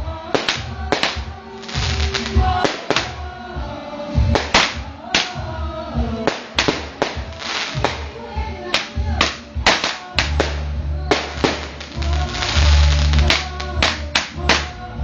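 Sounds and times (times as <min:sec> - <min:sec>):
music: 0:00.0 - 0:15.0
firework cracks: 0:00.4 - 0:03.3, 0:04.3 - 0:05.5, 0:06.2 - 0:14.9.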